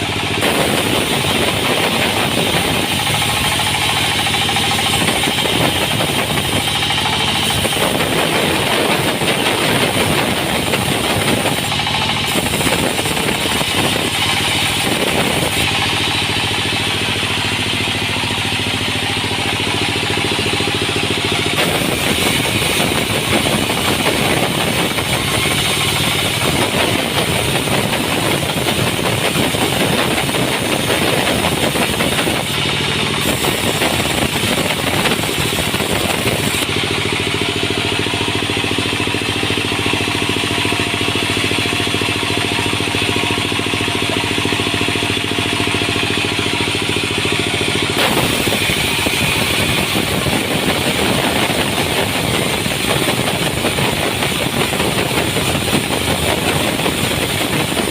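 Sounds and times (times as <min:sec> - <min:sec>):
sawmill machinery engine running: 0:00.0 - 0:57.9.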